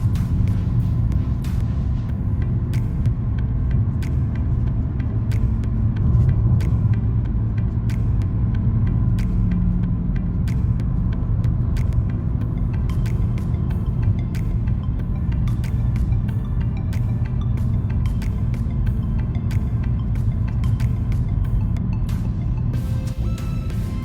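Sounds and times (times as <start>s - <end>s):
sharp clicks and ticks: 0.0s - 22.7s
car driving rumble: 0.0s - 24.0s.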